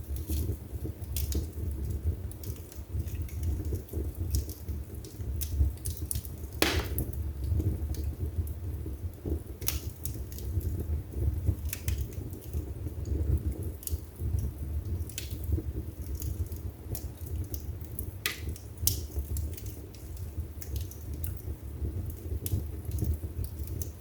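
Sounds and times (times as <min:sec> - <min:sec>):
burning logs crackling and popping: 0:00.0 - 0:24.0
fire flames rumbling: 0:00.0 - 0:24.0.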